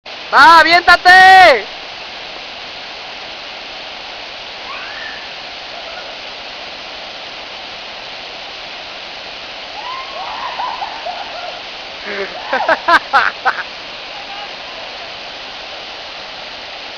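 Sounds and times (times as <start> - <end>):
waterfall rushing: 0.1 - 16.9.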